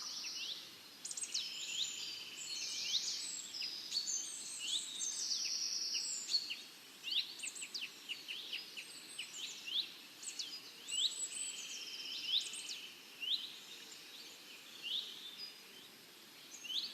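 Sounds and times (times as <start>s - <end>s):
faint outdoor hiss: 0.0s - 16.9s
songbirds chirping and singing: 0.0s - 16.9s.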